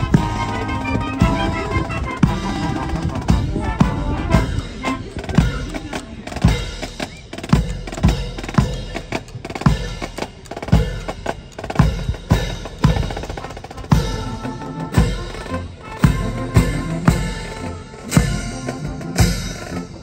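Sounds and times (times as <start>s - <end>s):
bass drum beat: 0.0s - 5.8s, 7.5s - 20.0s
snare drums rattling: 0.0s - 20.0s.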